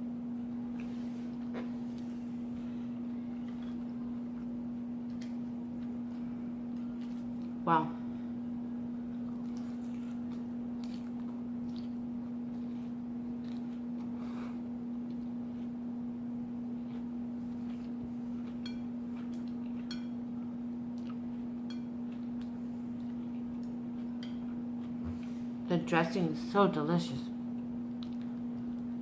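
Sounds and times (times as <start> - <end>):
steady low hum: 0.0 - 29.0
salad being chewed: 0.7 - 7.6, 9.0 - 15.8, 16.5 - 25.5, 27.5 - 29.0.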